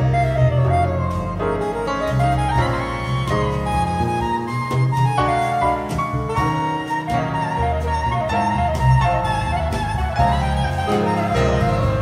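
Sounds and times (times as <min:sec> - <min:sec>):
electric bass line: 0:00.0 - 0:12.0
jazz piano: 0:00.0 - 0:12.0.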